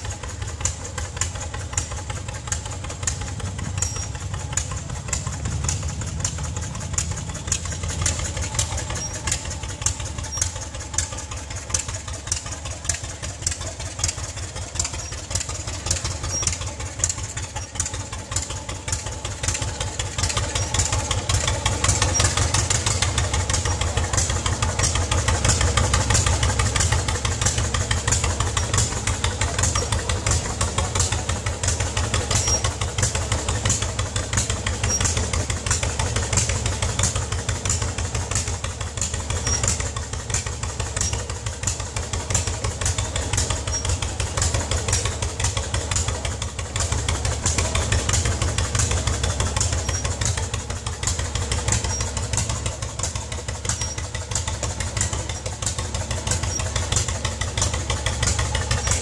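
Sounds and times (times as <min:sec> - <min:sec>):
tractor engine popping exhaust: 0:00.0 - 0:59.0.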